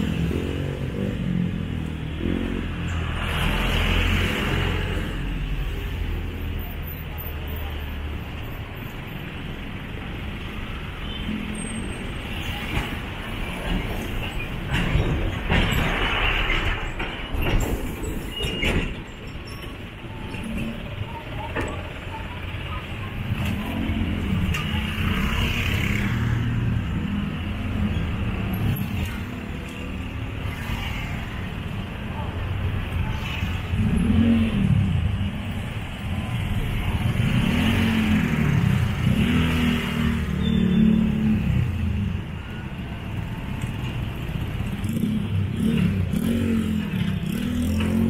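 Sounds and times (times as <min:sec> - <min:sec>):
traffic engines running: 0:00.0 - 0:48.0.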